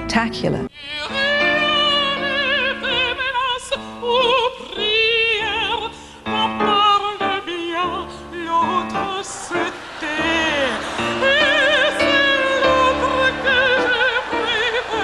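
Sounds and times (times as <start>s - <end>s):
woman singing opera: 0.8s - 15.0s.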